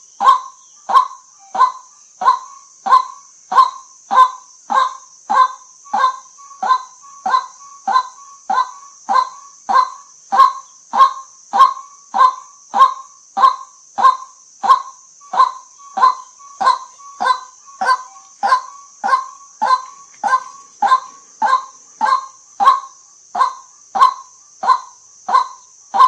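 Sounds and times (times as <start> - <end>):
bird harsh repeated calls: 0.0 - 26.0.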